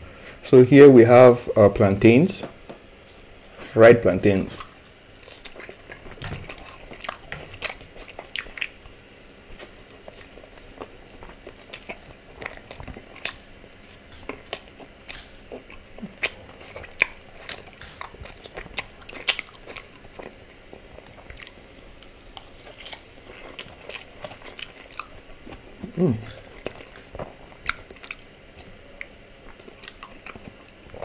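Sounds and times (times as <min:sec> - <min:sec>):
close-miked chewing: 0:04.3 - 0:31.0.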